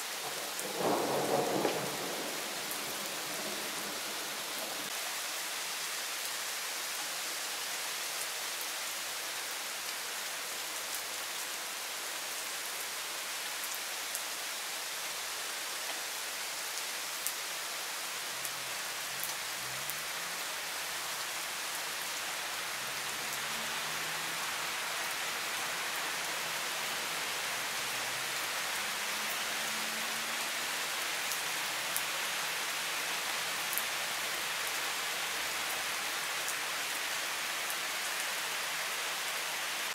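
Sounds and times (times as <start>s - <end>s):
rain falling on trees: 0.0s - 39.9s.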